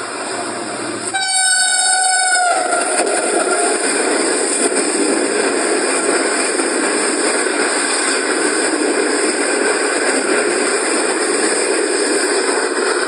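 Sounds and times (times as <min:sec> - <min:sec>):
train rushing at speed: 0:00.0 - 0:13.0.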